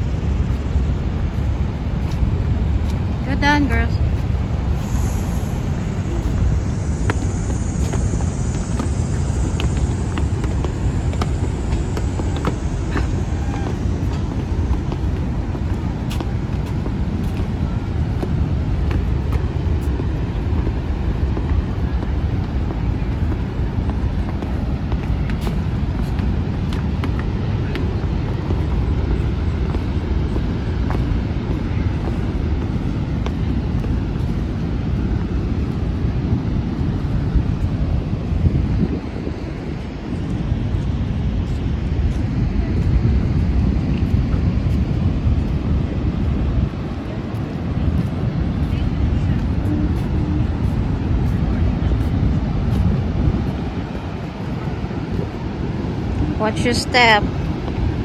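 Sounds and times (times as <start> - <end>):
waterfall roaring: 0.0 - 58.0
wind rumbling on microphone: 0.0 - 58.0.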